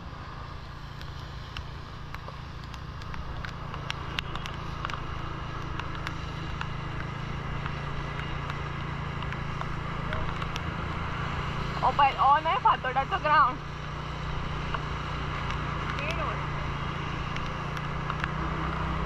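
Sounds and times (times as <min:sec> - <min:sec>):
motorbike engine rumble: 0:00.0 - 0:19.0
wet tyres hissing: 0:00.0 - 0:19.0
wind: 0:00.0 - 0:19.0
raindrops ticking on camera: 0:00.4 - 0:19.0.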